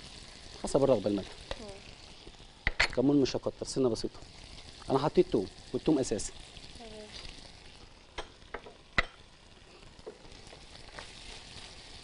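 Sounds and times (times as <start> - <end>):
liver sizzling in a pan: 0.0 - 12.0.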